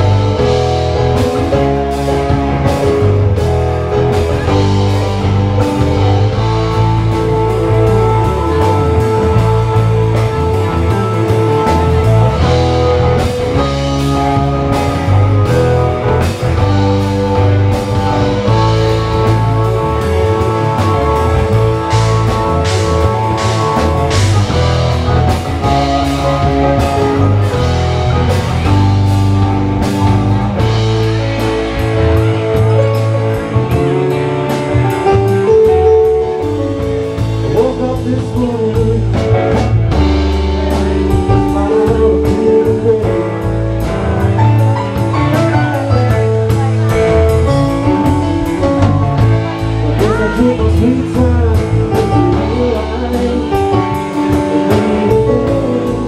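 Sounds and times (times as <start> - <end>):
drum kit beat: 0.0 - 56.0
electric guitars: 0.0 - 56.0
electric keyboards: 0.0 - 56.0
person singing: 4.3 - 28.9, 31.8 - 56.0.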